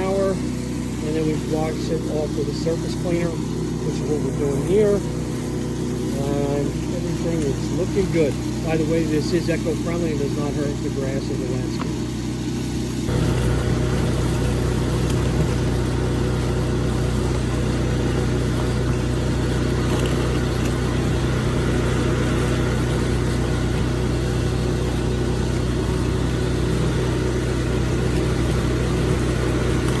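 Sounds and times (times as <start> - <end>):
pressure washer engine running: 0.0 - 30.0
water spraying on concrete: 0.0 - 30.0.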